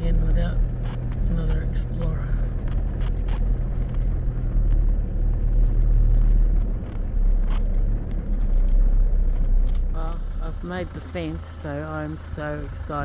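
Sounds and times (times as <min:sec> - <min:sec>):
engine and tyre rumble: 0:00.0 - 0:13.0.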